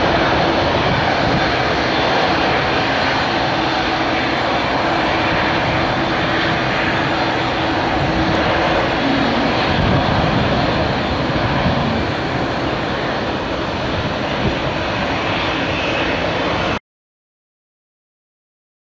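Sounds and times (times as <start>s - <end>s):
jet engine noise: 0.0s - 16.8s
wind gusting on microphone: 0.0s - 16.8s.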